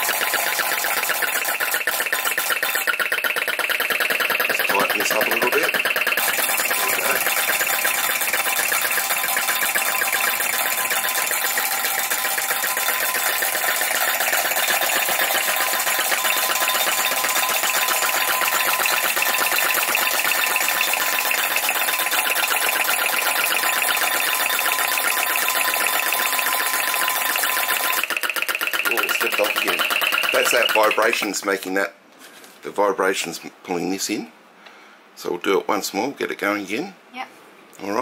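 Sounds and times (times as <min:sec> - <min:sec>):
model engine mechanical clatter: 0:00.0 - 0:31.3.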